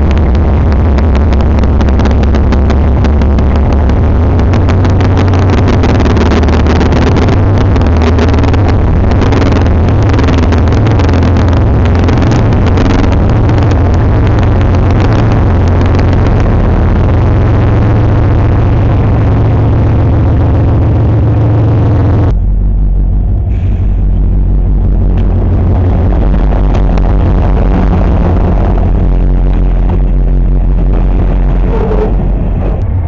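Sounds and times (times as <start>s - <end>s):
deep diesel engine drone: 0.0s - 33.0s.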